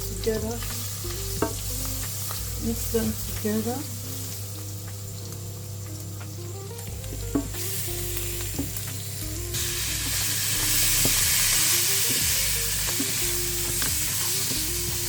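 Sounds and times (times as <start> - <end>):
onions sizzling in a pan: 0.0 - 15.0
soft background music: 0.0 - 15.0.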